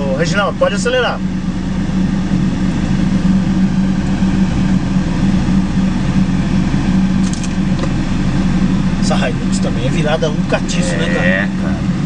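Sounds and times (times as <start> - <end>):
truck engines revving under load: 1.2 - 12.0.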